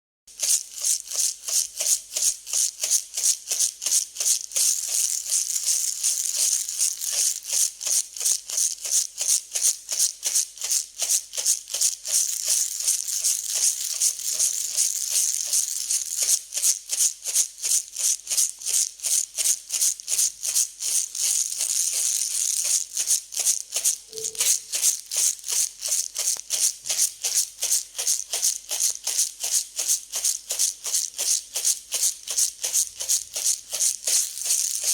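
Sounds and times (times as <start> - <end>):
dry grains shaken and rattling: 0.3 - 34.9.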